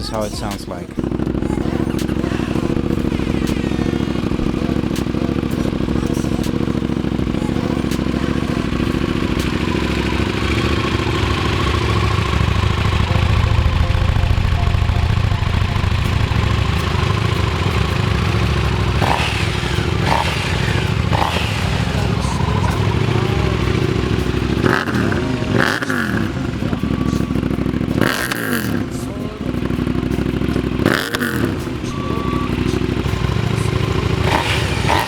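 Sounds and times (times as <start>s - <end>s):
motorcycle engine rumbling: 0.0s - 35.0s.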